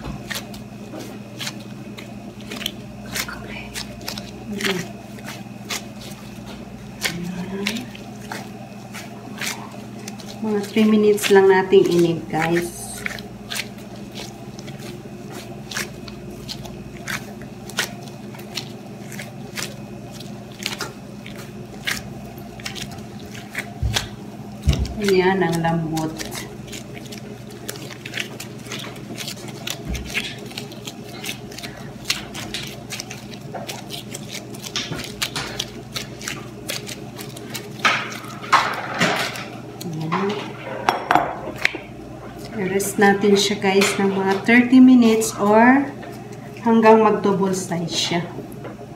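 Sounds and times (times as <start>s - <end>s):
plastic gloves crinkling: 0.0s - 40.5s
dough squishing and scraping: 0.0s - 48.9s.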